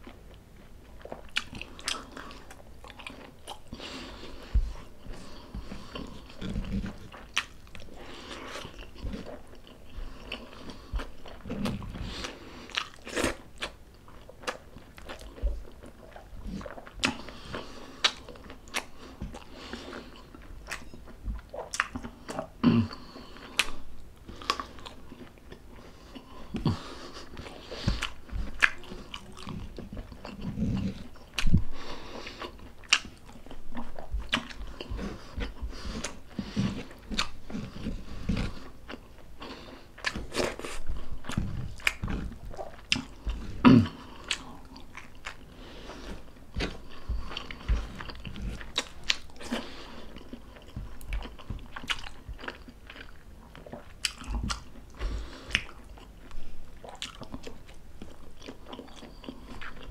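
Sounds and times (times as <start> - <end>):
person biting and chewing: 1.0 - 13.8, 14.4 - 22.5, 24.4 - 31.6, 32.2 - 39.1, 40.0 - 59.9.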